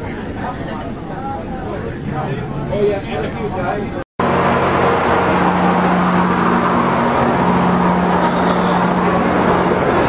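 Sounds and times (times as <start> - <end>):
steady mechanical drone: 0.0 - 10.0.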